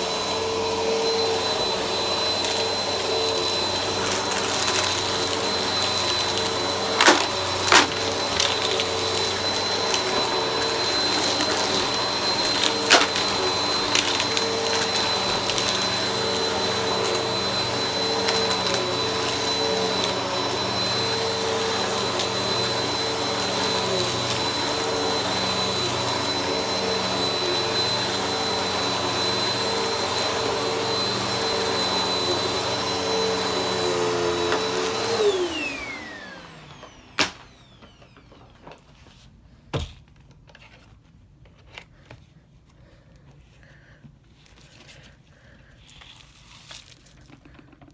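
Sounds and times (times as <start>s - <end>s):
vacuum cleaner running: 0.0s - 39.1s.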